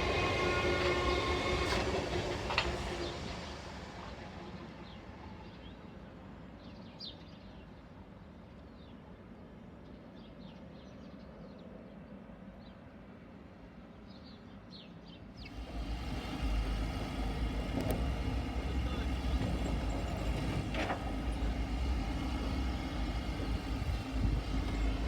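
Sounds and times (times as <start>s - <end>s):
train passing rumble: 0.0s - 10.6s, 11.2s - 25.0s.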